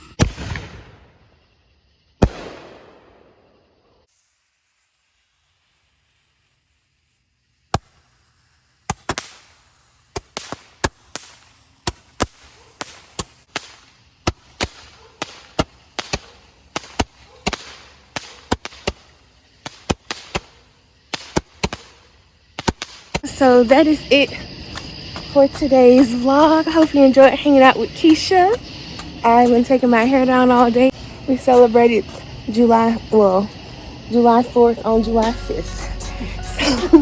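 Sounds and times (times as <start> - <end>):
fireworks popping and cracking: 0.0 - 37.0.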